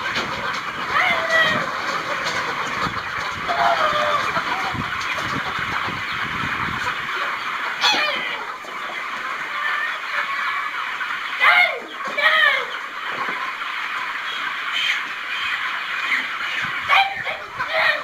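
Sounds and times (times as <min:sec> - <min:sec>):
chicks peeping and chirping: 0:00.0 - 0:18.0.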